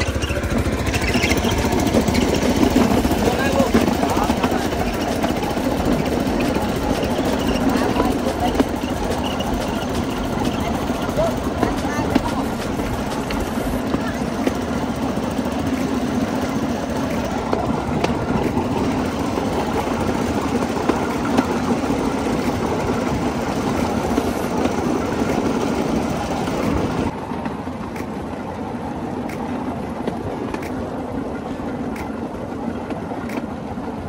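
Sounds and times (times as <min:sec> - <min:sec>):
small engine droning: 0:00.0 - 0:34.0
train wheels on rails: 0:00.0 - 0:34.0.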